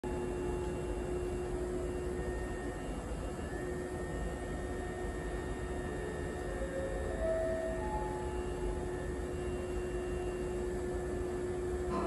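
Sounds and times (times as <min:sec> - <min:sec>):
constant hum: 0:00.0 - 0:12.0
faint steady tones: 0:00.2 - 0:12.0.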